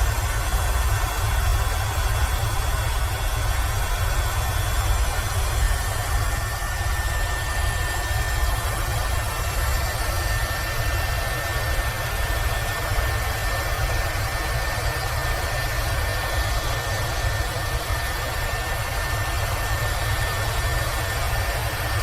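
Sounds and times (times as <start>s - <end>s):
helicopter rotor and turbine: 0.0s - 22.0s
thin steady whine: 0.0s - 22.0s.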